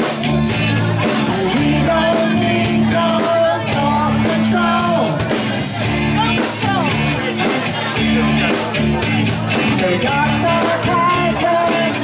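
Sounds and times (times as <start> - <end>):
person singing: 0.0 - 12.0
rock band playing: 0.0 - 12.0.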